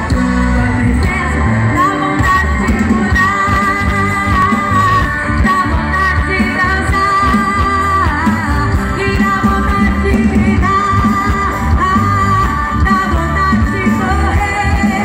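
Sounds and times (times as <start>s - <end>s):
worship band playing: 0.0s - 15.0s.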